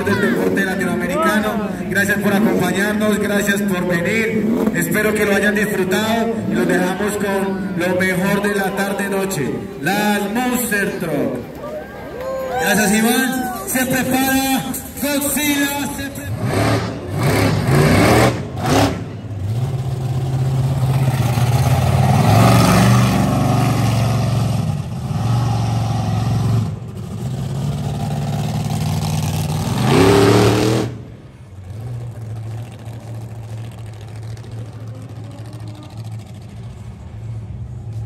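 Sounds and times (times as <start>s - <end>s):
truck engine revving: 0.0s - 9.8s, 13.8s - 38.0s.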